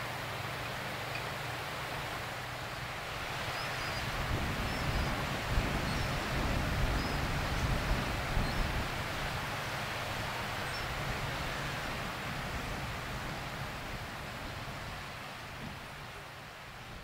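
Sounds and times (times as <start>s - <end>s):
small waves on shore: 0.0s - 17.0s
wind rumbling on microphone: 2.7s - 17.0s.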